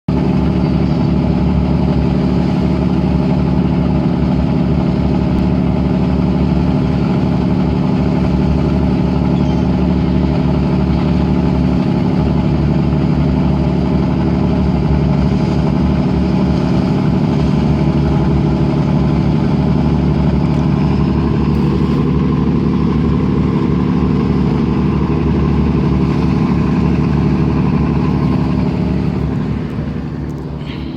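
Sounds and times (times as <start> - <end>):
boat engine droning: 0.1 - 30.9.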